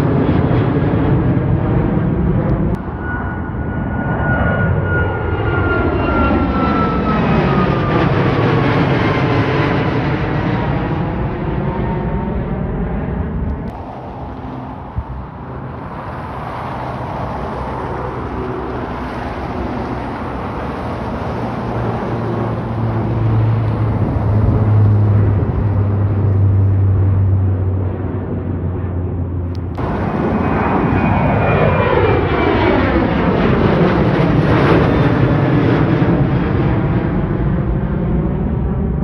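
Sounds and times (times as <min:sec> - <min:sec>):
jet engines rushing overhead: 0:00.0 - 0:39.0
turboprop plane humming overhead: 0:00.0 - 0:39.0.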